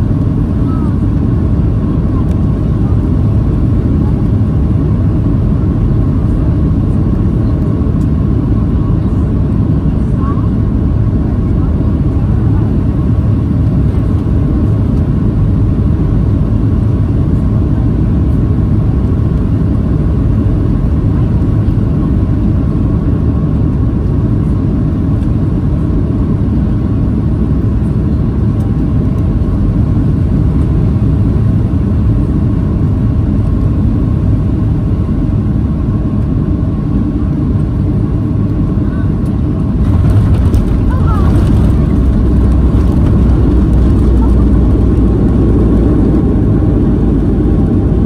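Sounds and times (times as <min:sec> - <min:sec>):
airplane cabin rumble: 0:00.0 - 0:48.0.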